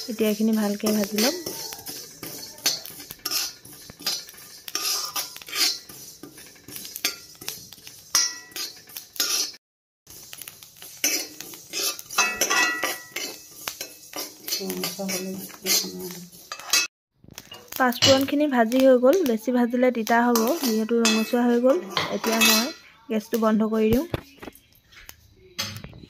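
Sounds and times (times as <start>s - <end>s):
seeds rattling on metal: 0.0s - 23.9s
metal spoon scraping a pan: 0.0s - 26.0s.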